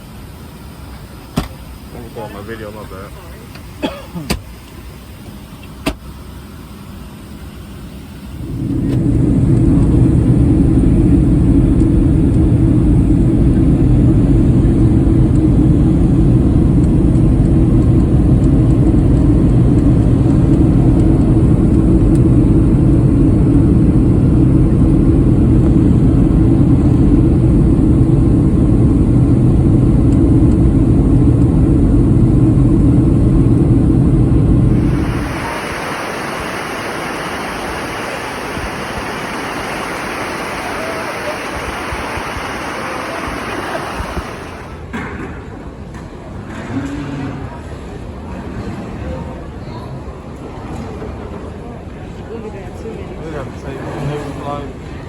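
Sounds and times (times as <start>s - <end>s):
airliner engine drone: 0.0s - 49.3s.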